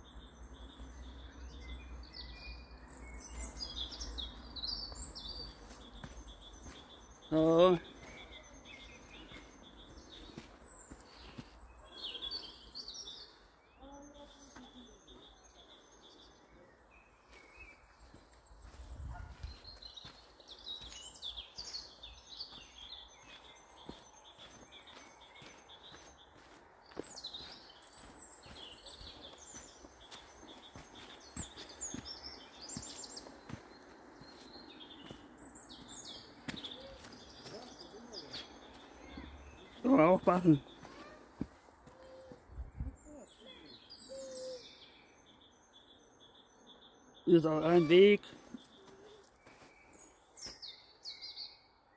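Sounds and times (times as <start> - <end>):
small birds chirping: 0.0 - 51.9
songbirds twittering: 0.0 - 51.9
faint footsteps on forest path: 0.1 - 51.7.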